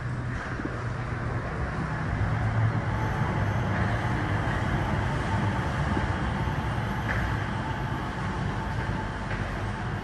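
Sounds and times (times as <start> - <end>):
train rumble with low hum: 0.0 - 10.0.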